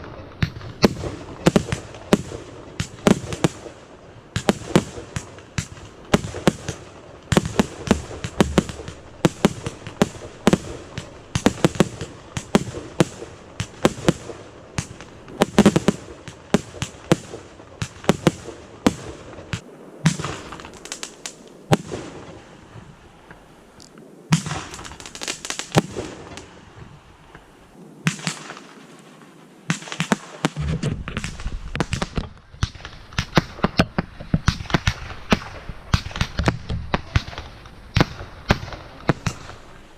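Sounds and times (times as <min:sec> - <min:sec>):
fireworks banging and crackling: 0:00.0 - 0:39.9.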